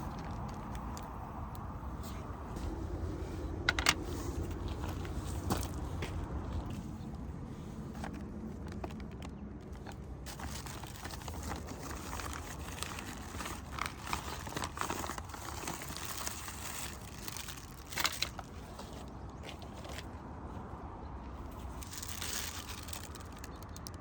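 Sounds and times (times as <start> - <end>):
crinkling and rustling: 0.0 - 20.7, 21.3 - 24.0.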